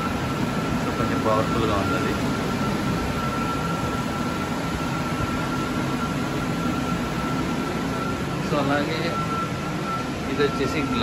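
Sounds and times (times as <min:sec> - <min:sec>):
range hood extractor fan whining: 0:00.0 - 0:11.0.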